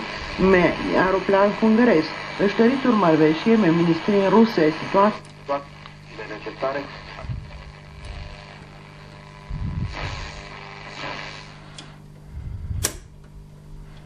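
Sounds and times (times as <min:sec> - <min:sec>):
radio hiss and crackling interference: 0:00.0 - 0:12.1
mains hum: 0:00.0 - 0:14.0.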